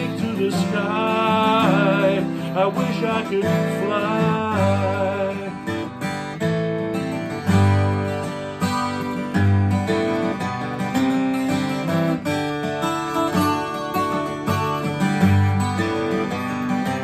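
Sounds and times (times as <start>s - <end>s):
twelve-string acoustic guitar: 0.0s - 17.0s.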